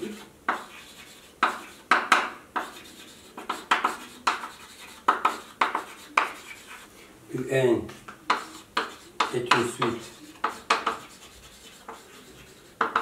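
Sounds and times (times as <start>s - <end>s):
chalk tapping and scratching on board: 0.0s - 6.9s, 7.9s - 13.0s.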